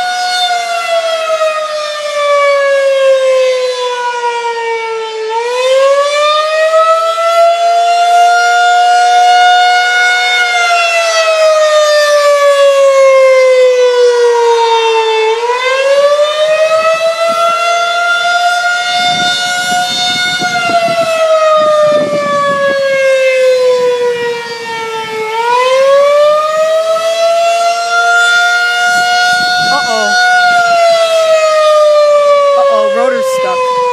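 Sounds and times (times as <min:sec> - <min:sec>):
warning siren wailing: 0:00.0 - 0:33.9.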